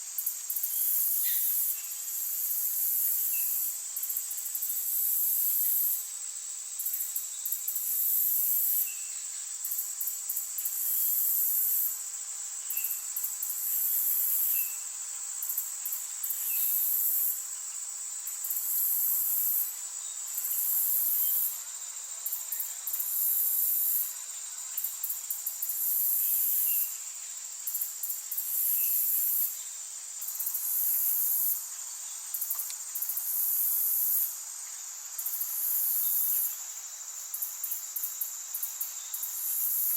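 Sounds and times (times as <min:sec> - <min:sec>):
steady high insect hum: 0:00.0 - 0:39.9.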